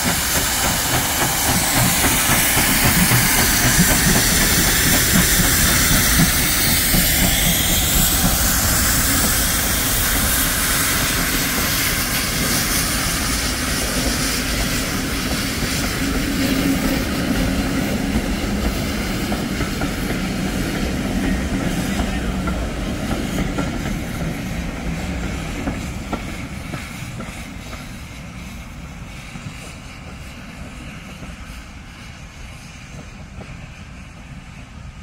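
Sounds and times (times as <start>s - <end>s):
train wheels clattering over rail joints: 0.0s - 28.5s
steam hissing: 0.0s - 35.0s
steam locomotive exhaust beats: 0.0s - 35.0s.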